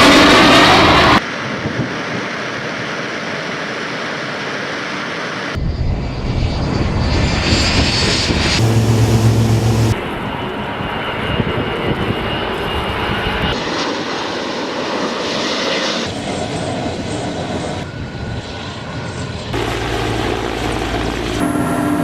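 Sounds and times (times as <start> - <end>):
aircraft engines roaring: 0.0 - 22.0.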